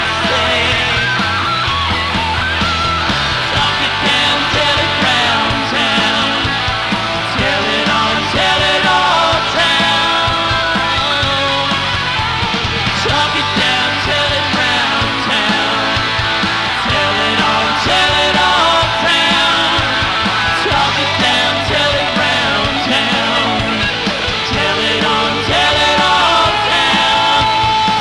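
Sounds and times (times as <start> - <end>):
bass guitar: 0.0 - 28.0
drums: 0.0 - 28.0
electric guitars: 0.0 - 28.0.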